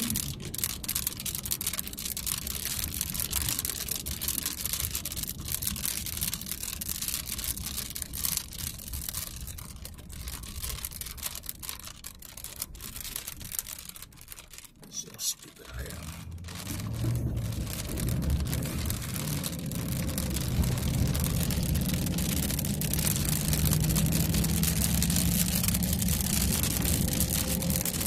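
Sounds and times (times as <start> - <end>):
low road rumble: 0.0 - 28.0
rain striking vehicle windshield: 0.0 - 28.0.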